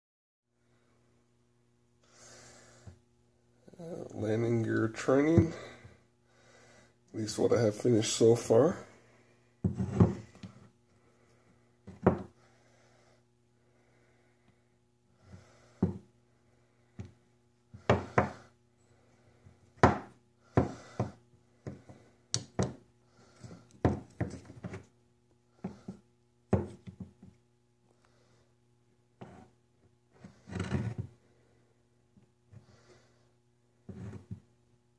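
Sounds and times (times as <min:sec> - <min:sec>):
low steady hum: 0:00.5 - 0:34.9.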